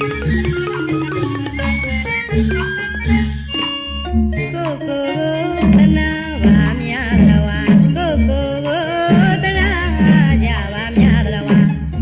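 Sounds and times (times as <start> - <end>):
pop song with gliding melody: 0.0 - 12.0.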